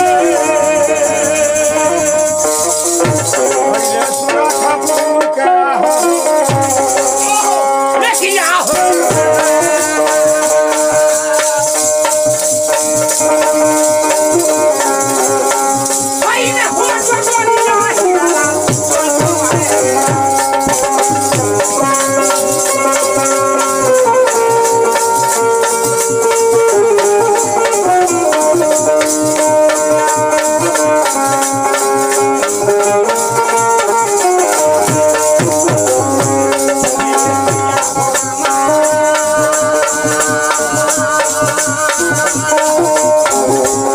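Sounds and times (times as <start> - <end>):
hand drum strokes: 0.0 - 43.9
plucked string melody: 0.0 - 43.9
clappers jingling rattle: 0.6 - 43.9.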